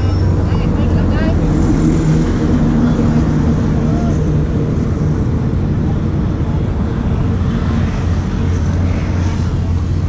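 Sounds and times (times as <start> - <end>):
low engine drone: 0.0 - 10.0.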